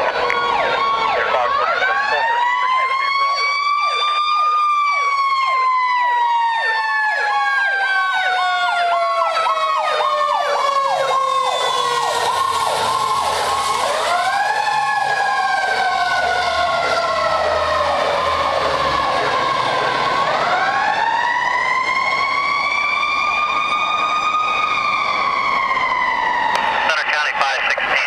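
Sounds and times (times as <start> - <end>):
electronic yelp siren: 0.0 - 28.0
fire engine diesel rumble: 0.0 - 28.0
wailing siren: 0.0 - 28.0.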